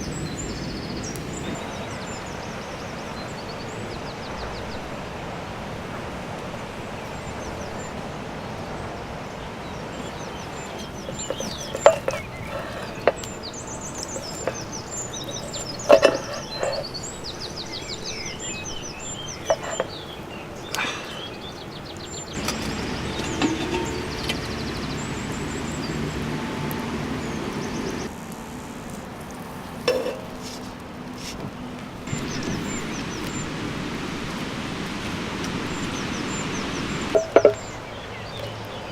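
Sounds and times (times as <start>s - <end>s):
small birds chirping: 0.0s - 5.2s, 6.6s - 38.9s.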